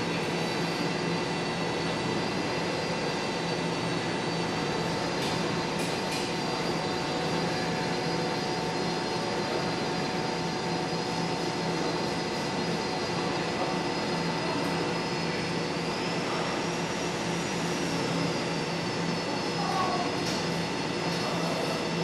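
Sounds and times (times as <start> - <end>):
machine whir and hum: 0.0 - 22.0.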